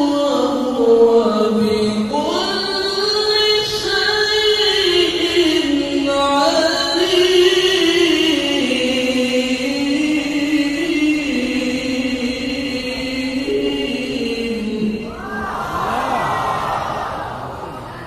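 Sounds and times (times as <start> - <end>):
person reciting in melodic chant: 0.0 - 16.2.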